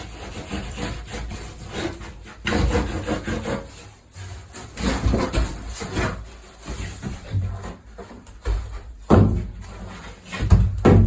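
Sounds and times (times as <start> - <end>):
scraping and rubbing: 0.0 - 11.0.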